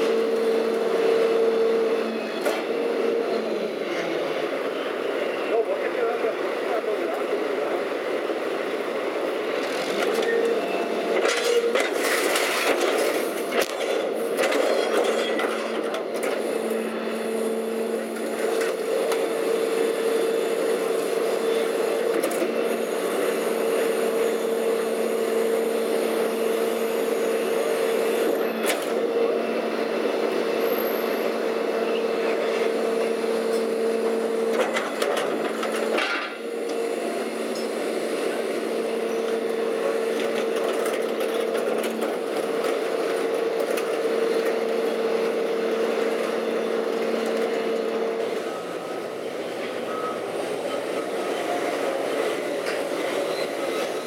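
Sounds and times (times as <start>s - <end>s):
garbage truck hydraulics whining: 0.0s - 5.7s, 7.5s - 54.0s.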